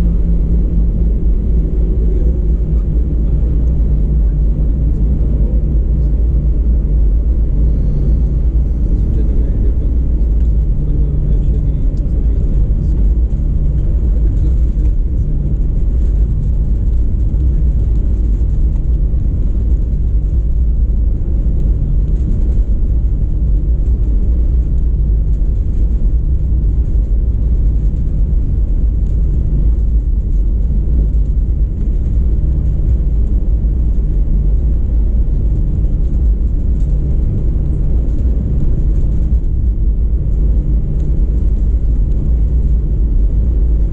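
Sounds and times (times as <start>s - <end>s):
jet engine cabin rumble: 0.0s - 43.9s.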